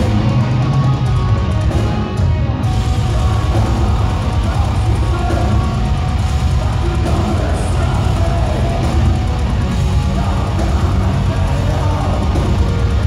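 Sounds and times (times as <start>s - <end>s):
metal band playing live: 0.0s - 13.0s.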